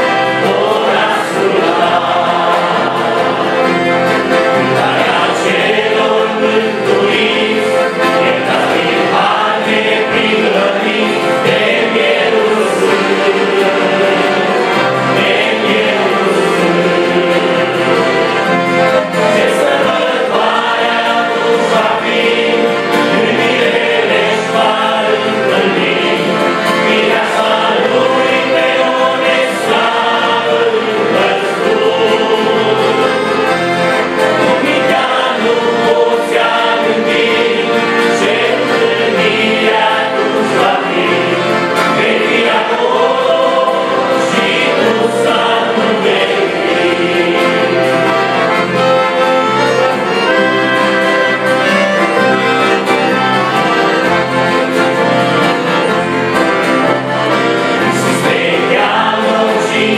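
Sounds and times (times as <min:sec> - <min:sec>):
accordions playing: 0:00.0 - 0:59.9
acoustic guitar: 0:00.0 - 0:59.9
men singing a hymn: 0:00.0 - 0:59.9.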